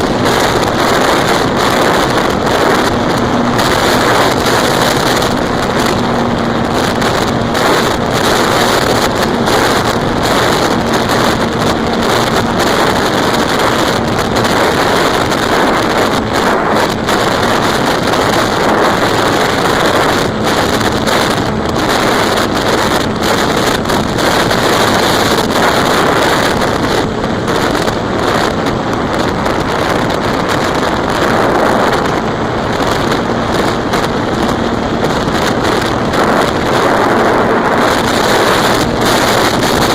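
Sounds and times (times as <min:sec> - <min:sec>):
electric motor and propeller hum: 0:00.0 - 0:39.9
wind buffeting microphone: 0:00.0 - 0:39.9.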